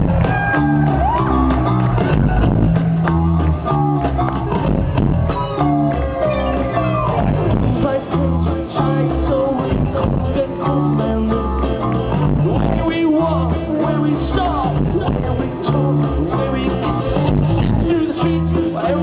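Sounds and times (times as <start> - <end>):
bass line: 0.0 - 19.0
guitar: 0.0 - 19.0
live band playing: 0.0 - 19.0.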